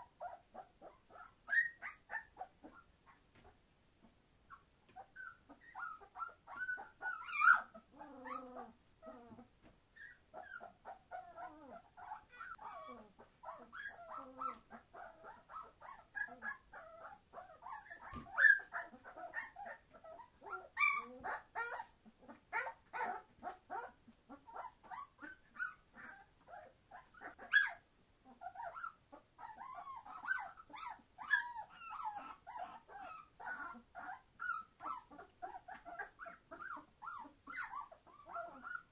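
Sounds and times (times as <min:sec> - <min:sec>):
puppies crying: 0:00.0 - 0:02.8, 0:05.0 - 0:09.4, 0:10.0 - 0:38.9.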